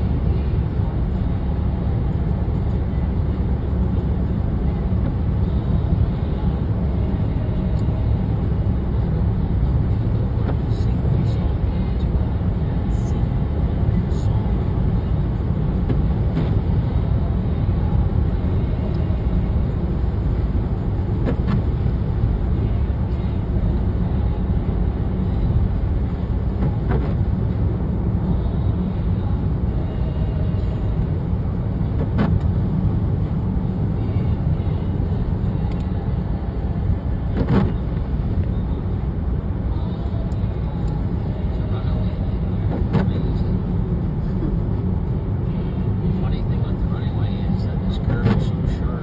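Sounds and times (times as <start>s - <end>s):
car tyres and engine rumble: 0.0s - 49.0s.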